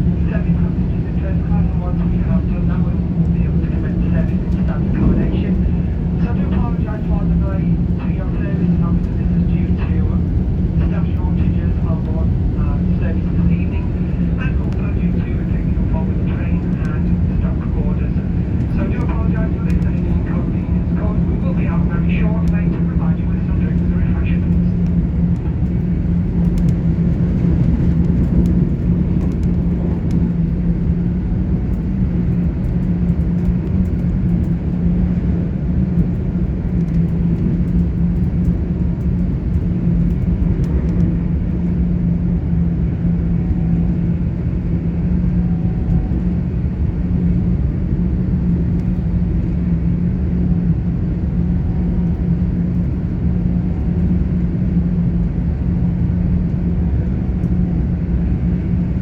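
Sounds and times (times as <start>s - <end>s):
steady low hum: 0.0s - 59.0s
train wheels rumbling on rail: 0.0s - 59.0s.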